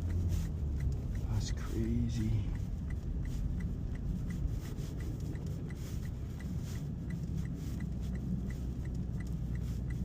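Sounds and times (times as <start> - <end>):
car engine and tyres rumbling: 0.0 - 10.0
turn signal ticking: 0.0 - 10.0.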